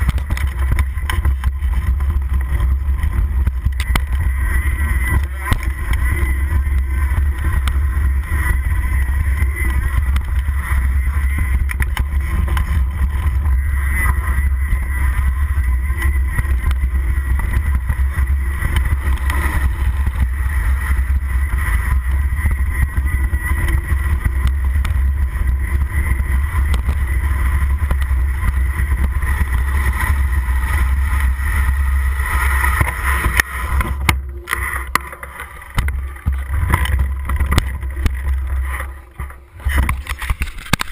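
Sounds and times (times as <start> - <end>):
bike rattling over bumpy trail: 0.0 - 40.9.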